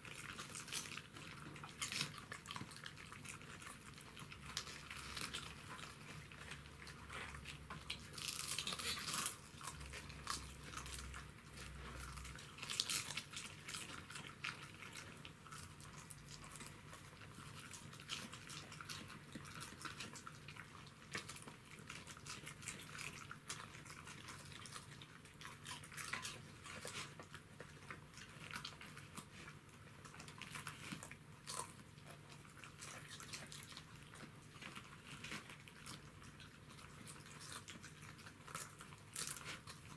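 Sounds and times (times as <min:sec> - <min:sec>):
dogs crunching cabbage leaves: 0:00.0 - 0:39.9.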